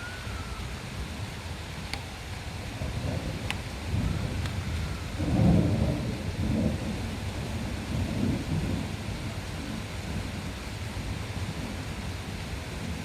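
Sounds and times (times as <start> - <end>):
steady rain: 0.0 - 13.0
thunder rumbling: 0.0 - 13.0.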